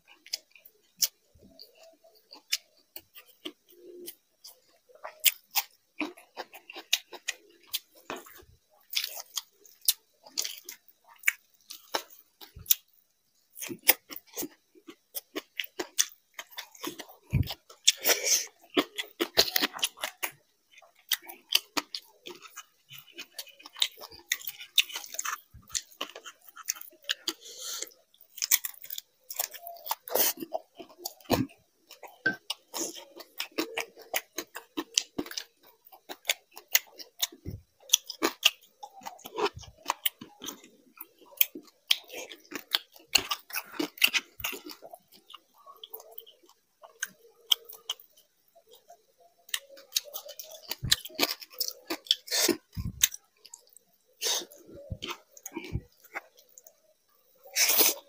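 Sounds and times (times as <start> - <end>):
crisp chewing: 0.0 - 58.0.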